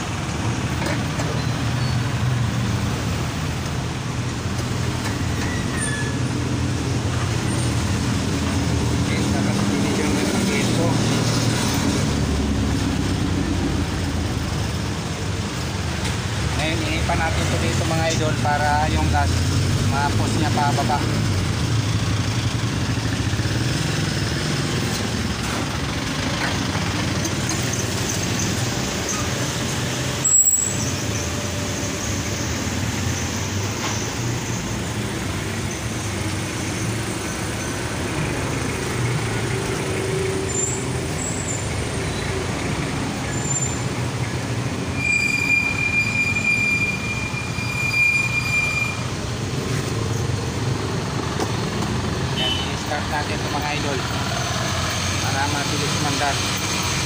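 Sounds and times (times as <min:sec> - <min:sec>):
vehicle noise: 0:00.0 - 0:57.0.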